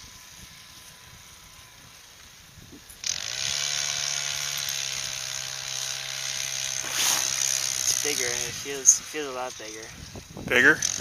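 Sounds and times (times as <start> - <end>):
fishing reel drag buzzing: 0.0 - 10.2.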